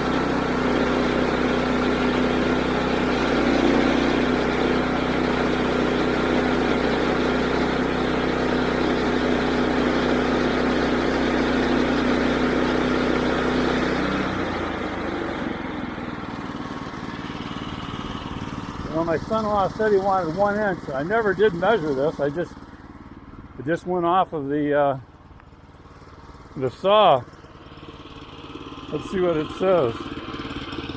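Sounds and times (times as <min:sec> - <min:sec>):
sawmill engine running: 0:00.0 - 0:30.9.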